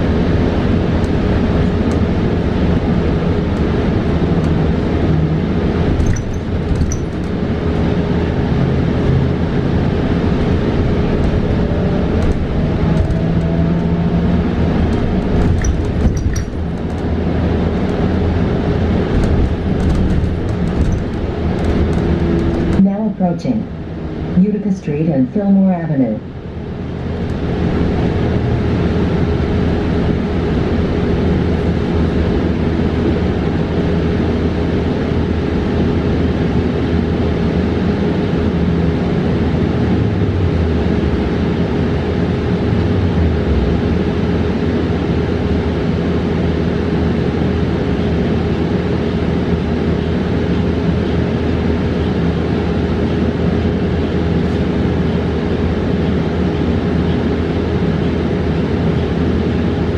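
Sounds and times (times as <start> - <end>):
road and tyre rumble: 0.0 - 24.5, 26.2 - 59.9
constant hum: 0.0 - 59.9.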